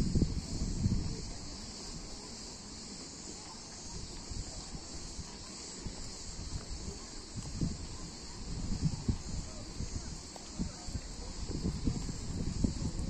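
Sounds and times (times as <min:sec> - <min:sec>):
wind rumble on microphone: 0:00.0 - 0:02.2, 0:03.9 - 0:13.0
insects chirring: 0:00.0 - 0:13.0.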